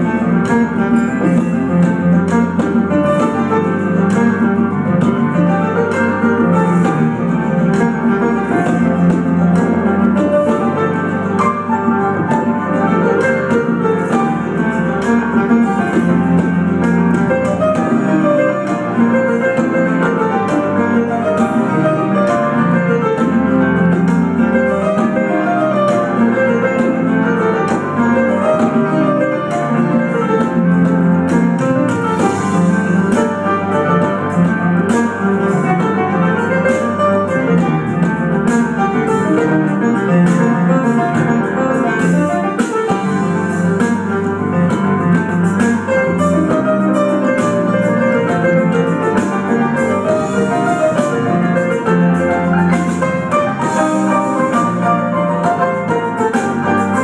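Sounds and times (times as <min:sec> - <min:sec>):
synthesizer keyboard playing: 0:00.0 - 0:57.0.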